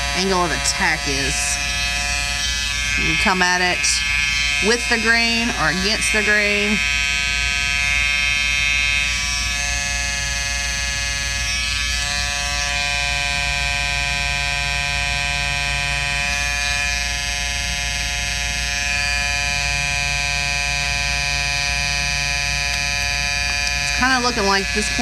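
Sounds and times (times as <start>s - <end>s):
hair clipper buzzing: 0.0s - 25.0s.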